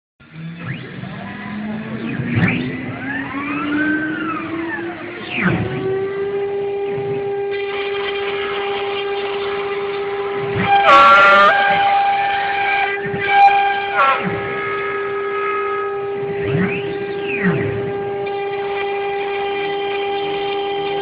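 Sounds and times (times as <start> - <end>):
router spindle whine: 0.2 - 21.0.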